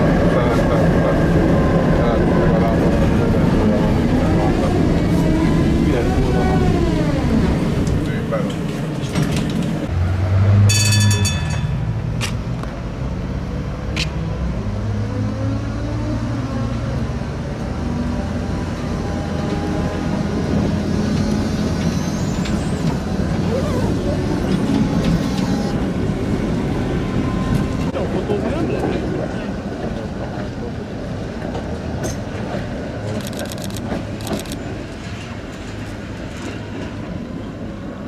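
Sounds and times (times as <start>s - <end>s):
tram motor hum and whine: 0.0s - 38.0s.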